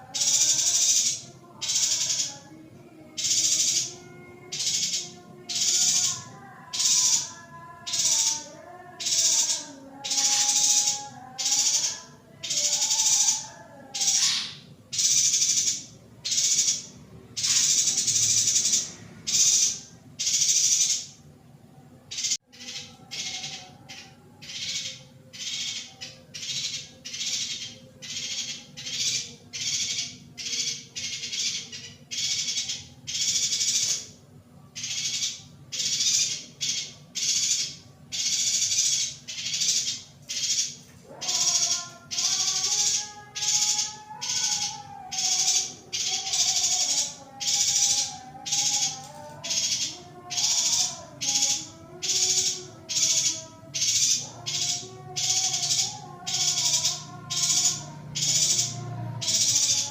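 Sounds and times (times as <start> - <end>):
bird high chirps: 0.0 - 2.5, 3.1 - 21.2, 22.1 - 59.9.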